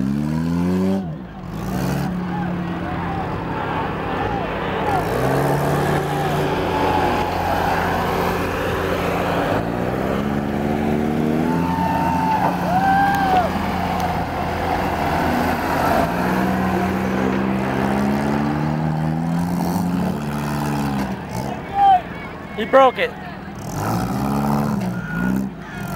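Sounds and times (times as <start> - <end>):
car engines revving hard: 0.0 - 25.9.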